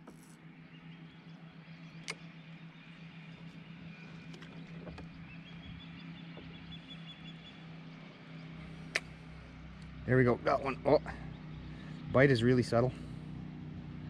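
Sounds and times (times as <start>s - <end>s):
distant motor humming: 0.0s - 14.0s
lakeside ambience: 0.0s - 14.0s.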